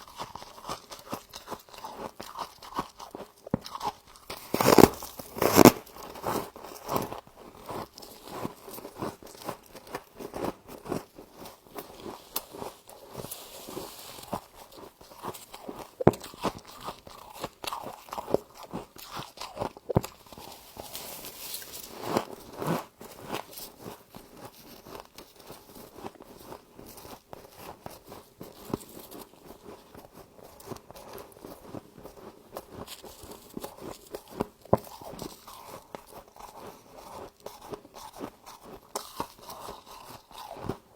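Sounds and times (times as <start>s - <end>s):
chewing crunchy frost: 0.0s - 40.9s.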